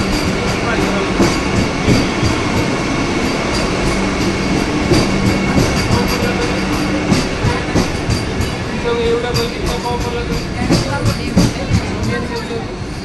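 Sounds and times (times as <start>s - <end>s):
train rumble and hum: 0.0s - 13.0s.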